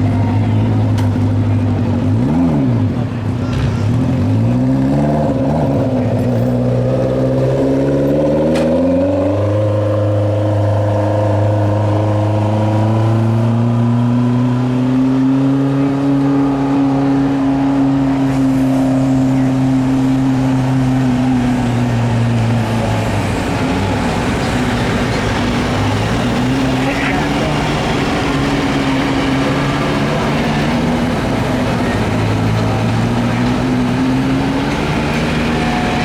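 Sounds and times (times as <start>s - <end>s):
tractor engine revving: 0.0s - 36.0s.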